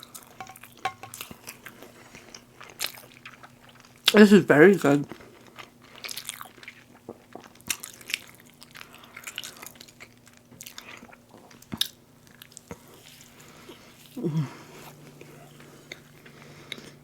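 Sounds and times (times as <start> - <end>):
faint steady hum: 0.0 - 17.0
chewing and biting sandwich: 1.2 - 4.2, 5.1 - 17.0.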